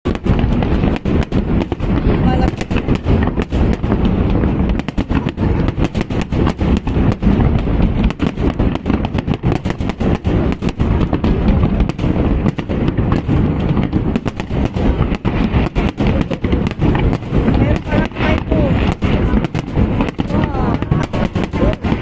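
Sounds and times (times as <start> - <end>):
fireworks cracks and bangs: 0.0 - 22.0
low rumble: 0.1 - 22.0.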